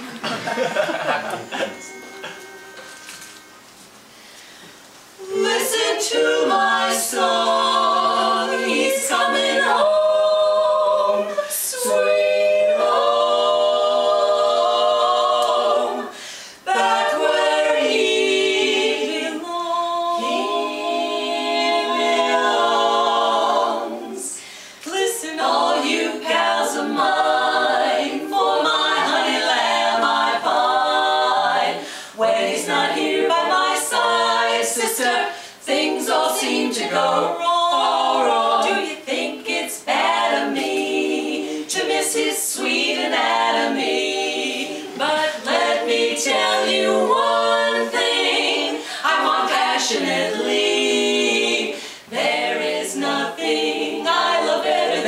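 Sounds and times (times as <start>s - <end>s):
women singing a cappella harmony: 5.2s - 55.0s.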